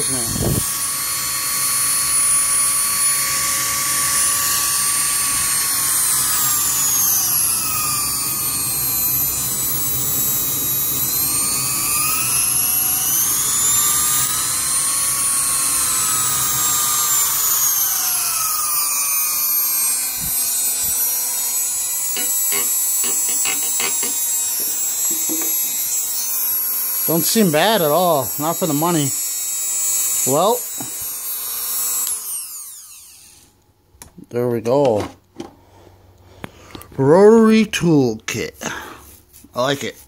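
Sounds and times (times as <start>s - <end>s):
rotary tool high whine: 0.0s - 33.6s.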